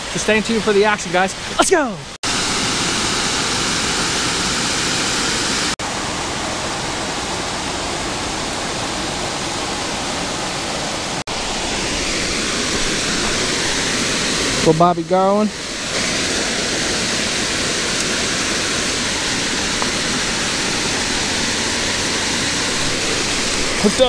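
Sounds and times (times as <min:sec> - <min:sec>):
waterfall rushing over rocks: 0:00.0 - 0:24.0.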